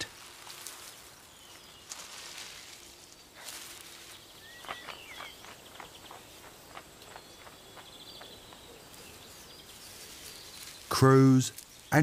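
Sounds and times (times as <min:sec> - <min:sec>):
faint bird chirps: 0:00.0 - 0:12.0
twigs and leaves rustling: 0:00.0 - 0:12.0.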